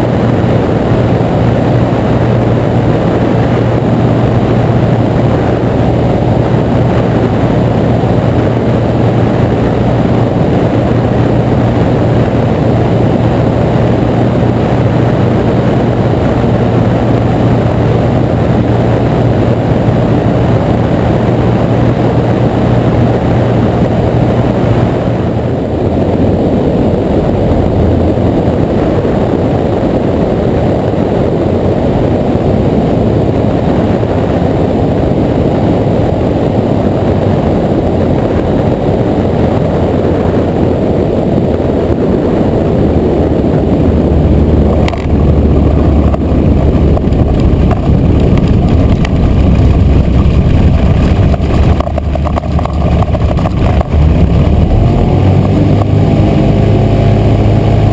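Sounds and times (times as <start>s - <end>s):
aircraft engine and propeller: 0.0s - 57.9s
wind rush: 0.0s - 57.9s.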